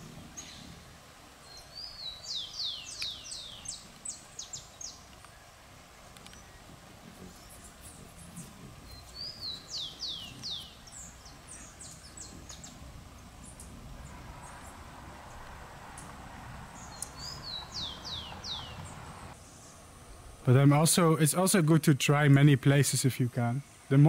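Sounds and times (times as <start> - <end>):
songbird singing: 0.0 - 24.0
steady background noise: 0.0 - 24.0.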